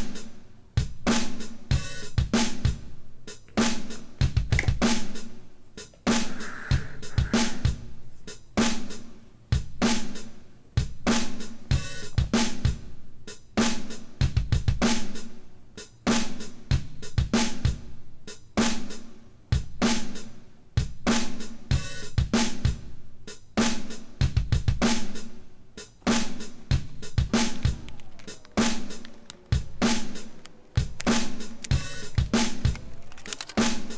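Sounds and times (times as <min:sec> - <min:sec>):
drum-led background music: 0:00.0 - 0:33.9.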